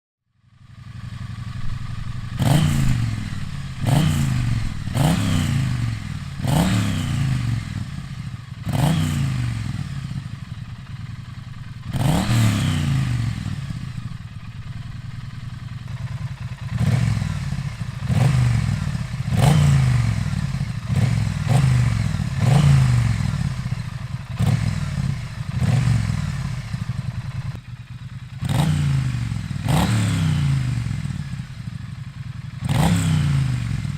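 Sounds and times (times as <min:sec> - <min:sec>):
motorcycle engine revving: 0:00.4 - 0:33.9.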